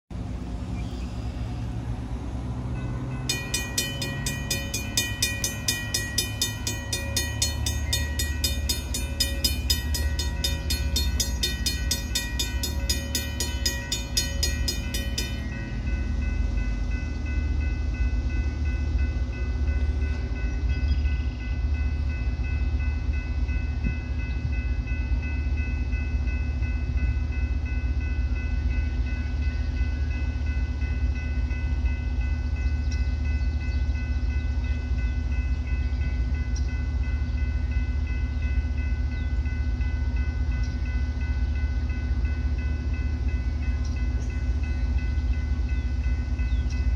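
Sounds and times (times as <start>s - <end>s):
diesel locomotives rumbling: 0.1s - 46.9s
steady warning tones: 0.1s - 46.9s.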